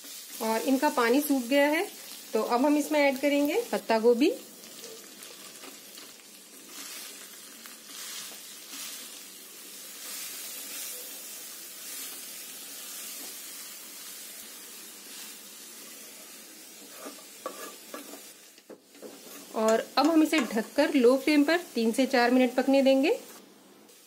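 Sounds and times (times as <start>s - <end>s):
cabbage sizzling in a pan: 0.0s - 24.0s.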